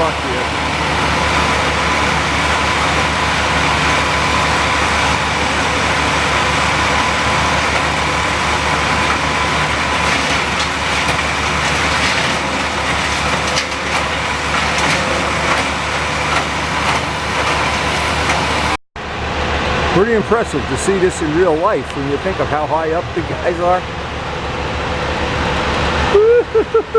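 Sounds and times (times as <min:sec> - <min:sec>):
wood chipper engine running: 0:00.0 - 0:26.9.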